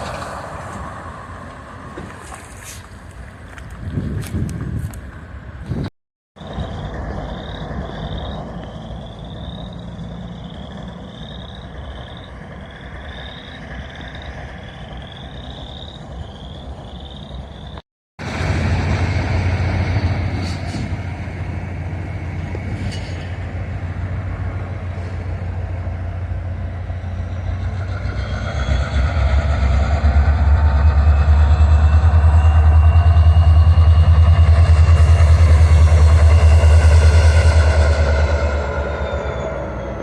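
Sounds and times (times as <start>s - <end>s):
train engine rumble: 0.0s - 40.0s
wheel and rail tones: 6.4s - 40.0s.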